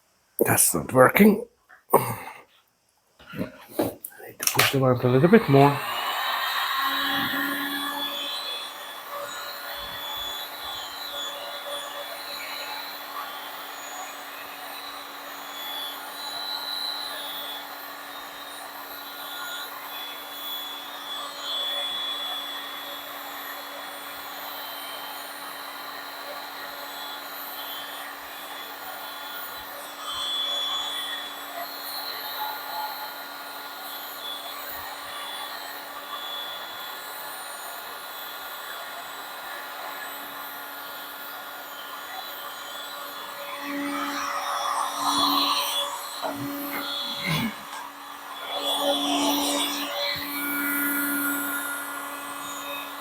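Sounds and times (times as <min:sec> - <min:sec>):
hot-air blower whirring: 0:03.2 - 0:53.0.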